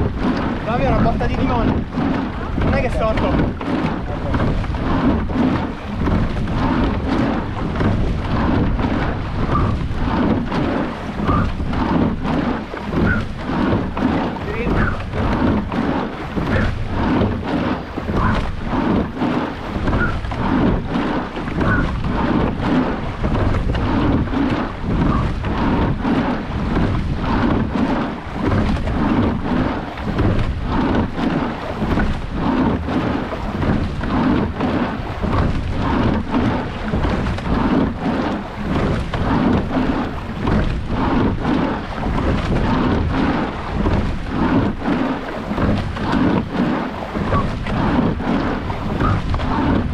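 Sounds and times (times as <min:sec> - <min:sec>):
oars and rigging knocking: 0:00.0 - 0:49.9
water splashing along hull: 0:00.0 - 0:49.9
wind buffeting microphone: 0:00.0 - 0:49.9.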